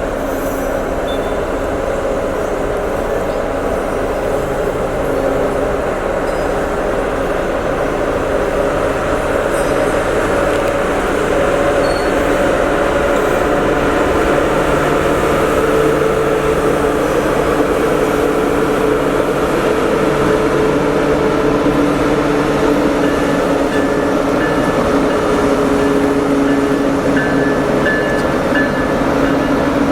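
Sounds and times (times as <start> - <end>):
train running with loud hum: 0.0 - 29.9.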